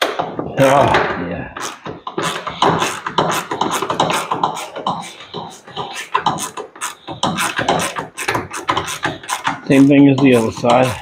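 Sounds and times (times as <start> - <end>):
hand tools clicking and knocking: 0.0 - 11.0.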